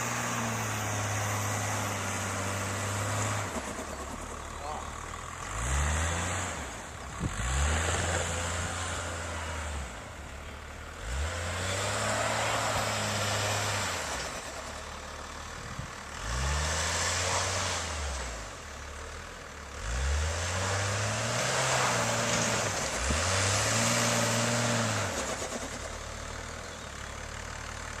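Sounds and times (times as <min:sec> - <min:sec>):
wheels spinning in snow: 0:00.0 - 0:18.7, 0:19.9 - 0:28.0
car engine revving: 0:00.0 - 0:19.1, 0:19.7 - 0:26.4.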